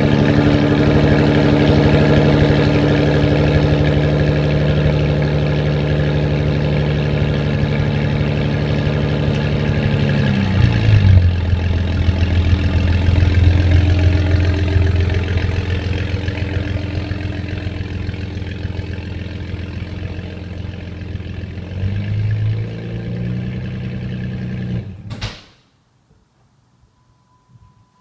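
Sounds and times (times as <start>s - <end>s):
car engine idling: 0.0s - 25.1s.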